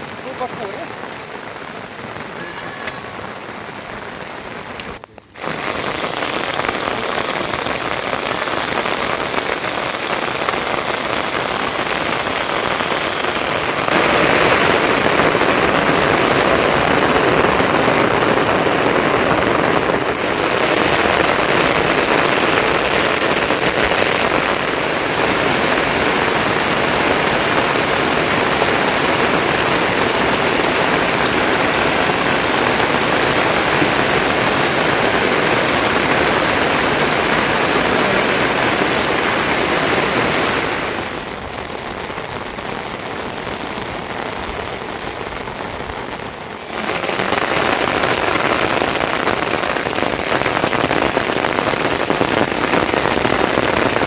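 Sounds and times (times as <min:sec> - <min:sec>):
steady hiss of rain: 0:00.0 - 0:54.0.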